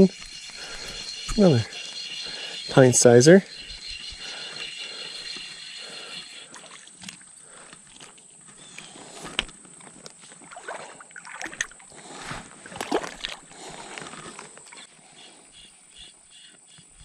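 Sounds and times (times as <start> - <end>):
creek water splashing: 0.0 - 14.8.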